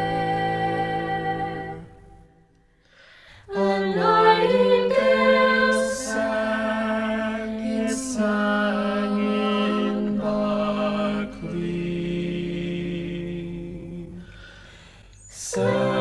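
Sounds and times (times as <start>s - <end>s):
a cappella group singing chords: 0.0s - 16.0s.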